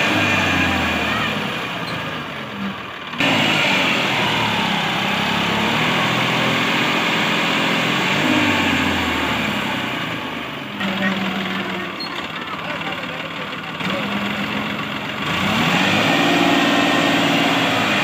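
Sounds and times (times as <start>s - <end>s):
tractor diesel engine running hard: 0.0s - 18.0s.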